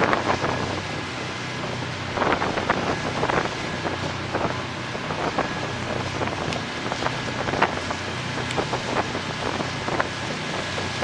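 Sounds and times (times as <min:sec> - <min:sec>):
low engine hum: 0:00.0 - 0:11.0
water splashing: 0:00.0 - 0:11.0
wind on microphone: 0:00.0 - 0:11.0.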